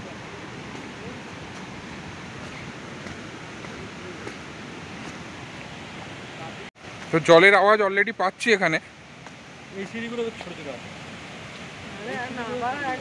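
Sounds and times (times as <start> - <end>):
distant waterfall rushing: 0.0 - 13.0.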